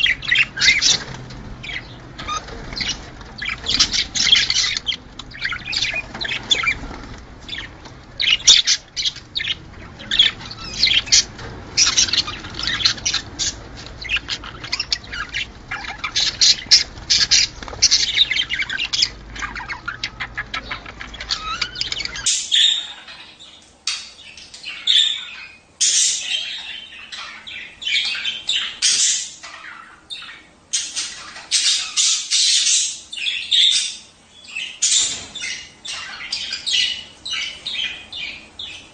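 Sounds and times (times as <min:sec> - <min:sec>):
budgerigars chattering and squawking: 0:00.0 - 0:38.9
low background hum: 0:00.0 - 0:38.9.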